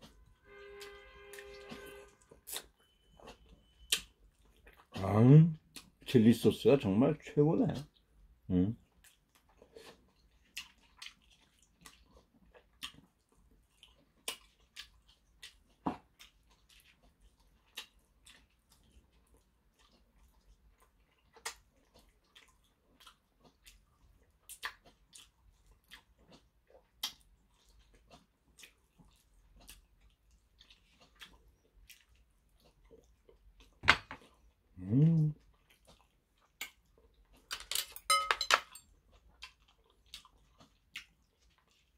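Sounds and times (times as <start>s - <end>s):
chewing meat with mouth smacks: 1.4s - 6.1s, 7.8s - 37.5s, 38.8s - 41.9s.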